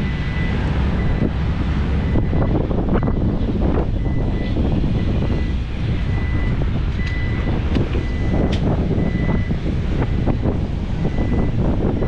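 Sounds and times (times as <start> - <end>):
excavator diesel engine running: 0.0 - 12.0
wind buffeting microphone: 0.0 - 12.0.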